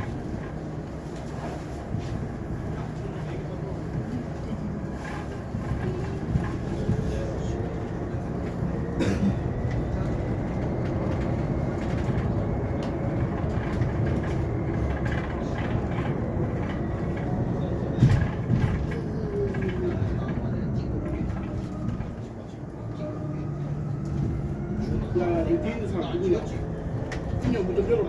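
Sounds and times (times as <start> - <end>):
road and tyre rumble: 0.0 - 28.0.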